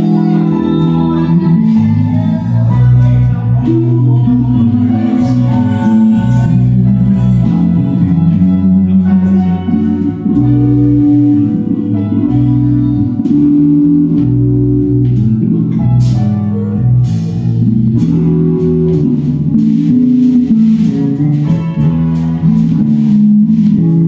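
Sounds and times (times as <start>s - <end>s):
bass line: 0.0s - 24.0s
electric guitar: 0.0s - 24.0s
upright piano: 0.0s - 24.0s.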